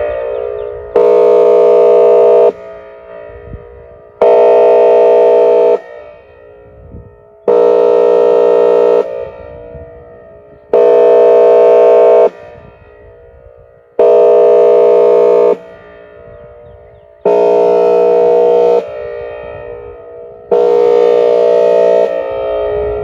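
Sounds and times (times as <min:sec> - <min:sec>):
warning siren horn blasts: 0:00.0 - 0:23.0.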